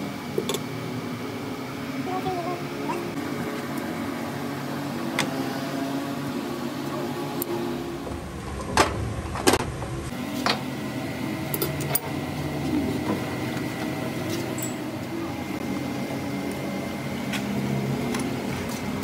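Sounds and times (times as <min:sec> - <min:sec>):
workshop machinery hum: 0:00.0 - 0:19.0.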